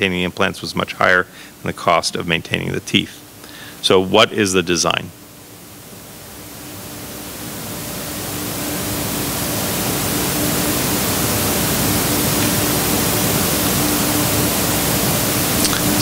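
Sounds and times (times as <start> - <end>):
room noise hiss: 0.0 - 16.0.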